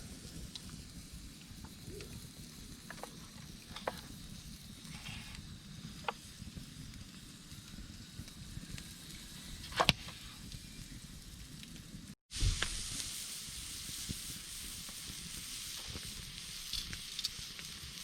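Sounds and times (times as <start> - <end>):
campfire crackling: 0.0 - 18.0
fire popping: 0.0 - 18.0.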